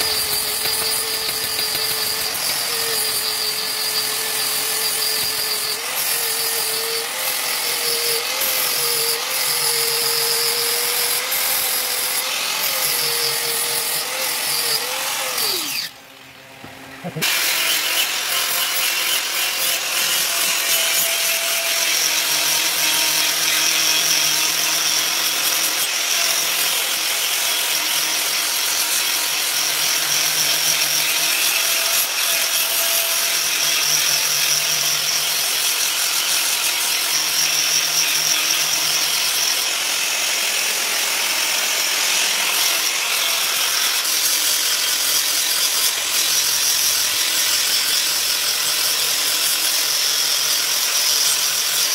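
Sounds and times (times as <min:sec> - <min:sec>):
angle grinder grinding steel: 0:00.0 - 0:16.0, 0:17.1 - 0:51.9.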